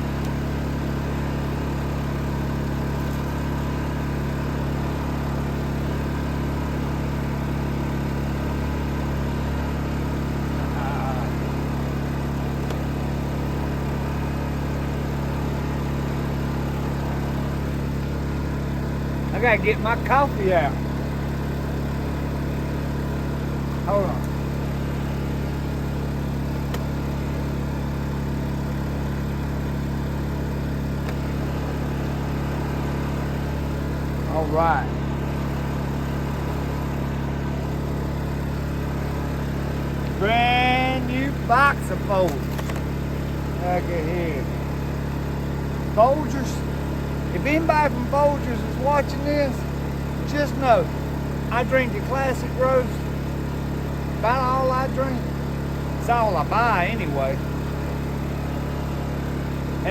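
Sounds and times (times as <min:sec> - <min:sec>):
generator engine humming: 0:00.0 - 0:59.9.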